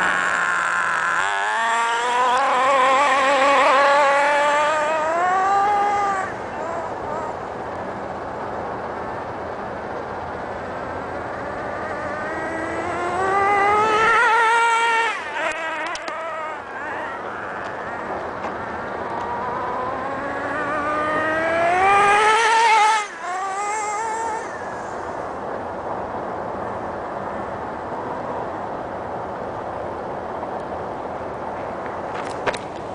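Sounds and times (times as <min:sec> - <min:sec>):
model truck engine whining: 0:00.0 - 0:28.5.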